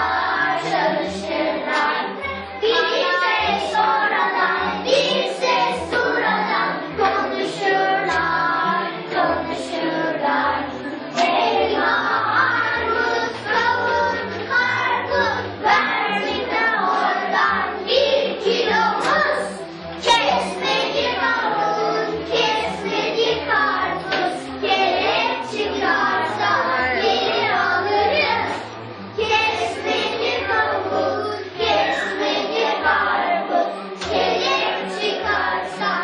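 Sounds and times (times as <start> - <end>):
children singing together: 0.0 - 36.0
instrumental accompaniment: 0.0 - 36.0.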